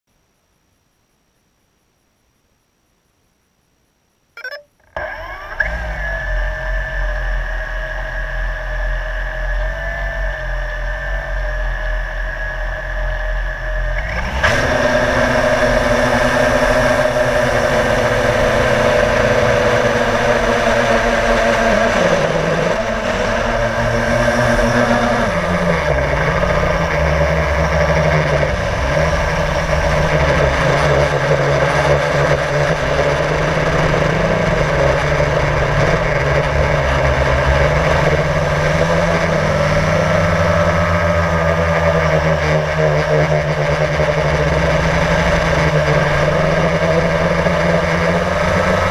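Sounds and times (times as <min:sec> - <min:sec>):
drone propellers whirring: 0:04.4 - 0:48.9.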